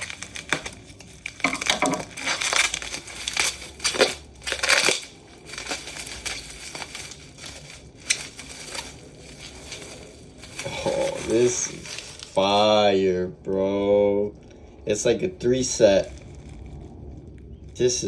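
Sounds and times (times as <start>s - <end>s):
packaging crinkling: 0.0s - 12.8s, 15.5s - 18.0s.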